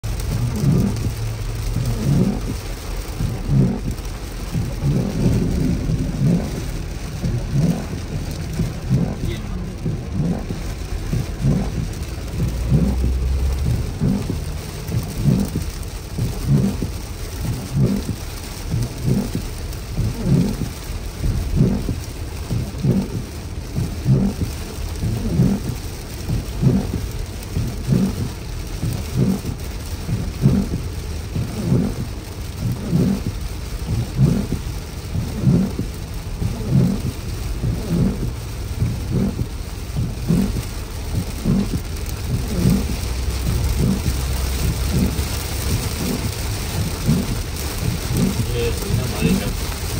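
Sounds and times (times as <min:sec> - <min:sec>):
heavy rain on car roof: 0:00.0 - 0:49.9
low rumbles: 0:00.0 - 0:49.9
windshield wipers thumping: 0:00.0 - 0:49.9.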